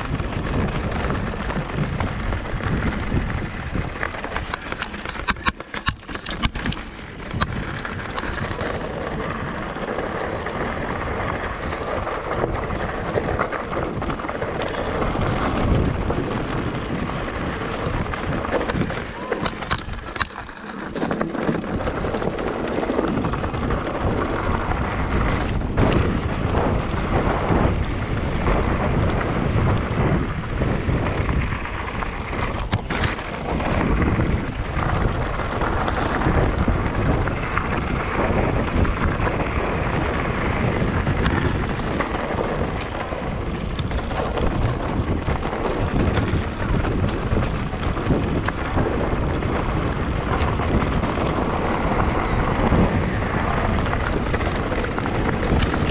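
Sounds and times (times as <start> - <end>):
bike rattling over stony track: 0.0 - 55.9
wind buffeting microphone: 0.0 - 55.9.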